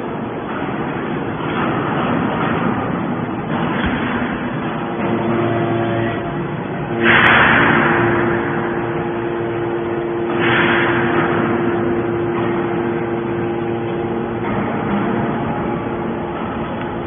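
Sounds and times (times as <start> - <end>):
loud rush of noise: 0.0 - 17.0
engine humming: 0.2 - 17.0.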